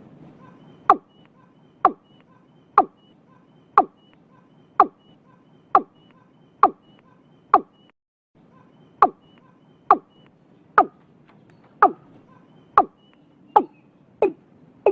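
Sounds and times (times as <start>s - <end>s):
bird calling with falling notes: 0.4s - 14.9s.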